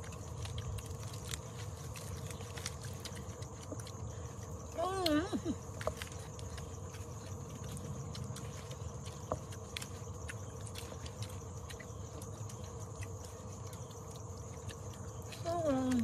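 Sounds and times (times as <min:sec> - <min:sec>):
chewing and food handling clicks: 0:00.0 - 0:16.0
insect drone: 0:00.0 - 0:16.0
low outdoor rumble: 0:00.0 - 0:16.0.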